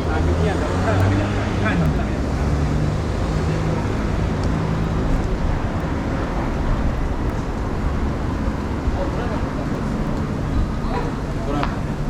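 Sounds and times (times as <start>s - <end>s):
motor vehicle engine humming: 0.0s - 12.0s
traffic noise: 0.0s - 12.0s.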